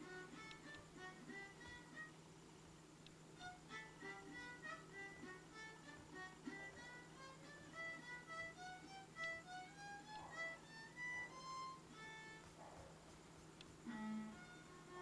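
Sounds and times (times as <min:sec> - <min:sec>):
faint background music: 0:00.0 - 0:15.0
steady low hum: 0:00.0 - 0:15.0.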